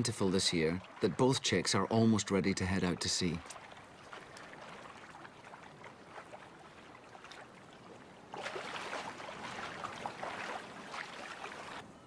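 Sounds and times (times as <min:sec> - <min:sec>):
water lapping and splashing: 0:00.0 - 0:11.9.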